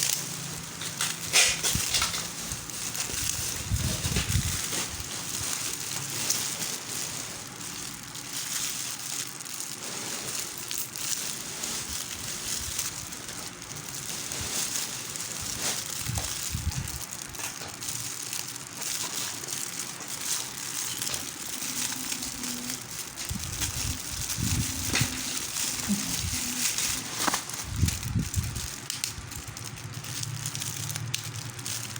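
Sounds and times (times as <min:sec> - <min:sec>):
packaging crinkling: 0:00.0 - 0:31.9.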